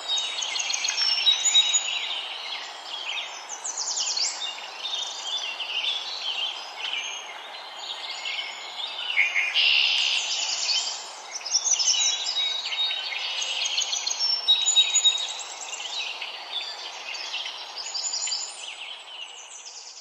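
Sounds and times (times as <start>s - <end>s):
songbirds chirping and trilling: 0.0s - 20.0s
steady background hiss: 0.0s - 20.0s.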